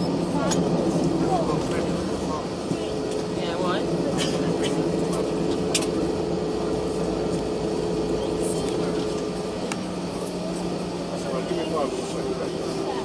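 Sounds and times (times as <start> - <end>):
aircraft cabin hum: 0.0 - 13.0.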